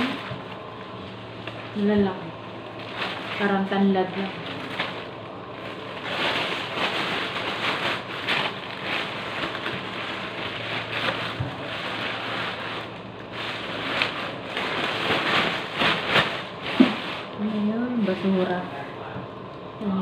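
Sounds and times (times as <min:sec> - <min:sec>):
plastic bag rustling and crinkling: 0:00.0 - 0:19.1.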